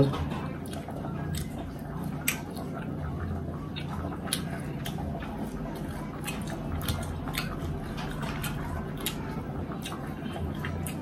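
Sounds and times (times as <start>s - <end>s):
person chewing wetly: 0.0s - 11.0s.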